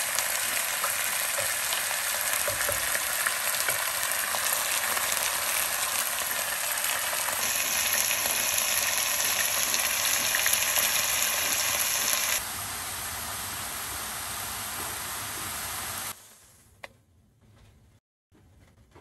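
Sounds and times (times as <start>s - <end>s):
meat sizzling in hot oil: 0.0s - 16.3s
herbs sauteing in oil: 0.0s - 16.5s.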